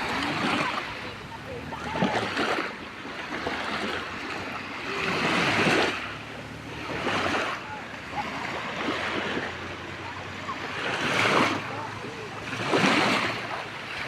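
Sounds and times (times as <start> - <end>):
sea waves breaking on beach: 0.0 - 14.0.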